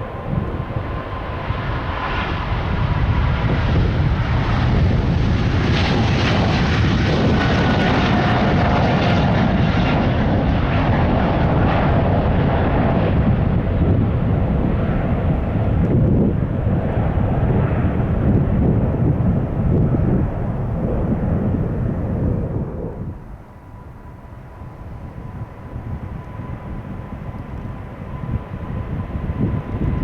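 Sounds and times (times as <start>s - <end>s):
jet airliner engines roaring: 0.0s - 30.0s.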